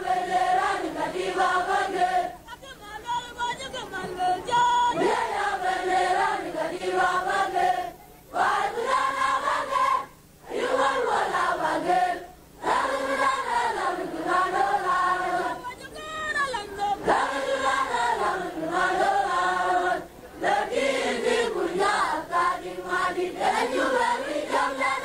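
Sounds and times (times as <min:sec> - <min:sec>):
group of voices singing: 0:00.0 - 0:02.5, 0:03.9 - 0:15.8, 0:16.6 - 0:25.0.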